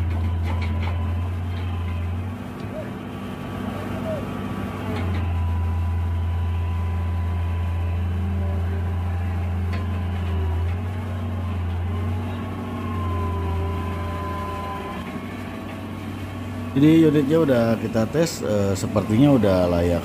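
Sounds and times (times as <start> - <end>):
excavator diesel engine under load: 0.0 - 20.0
hydraulic whine: 0.0 - 20.0.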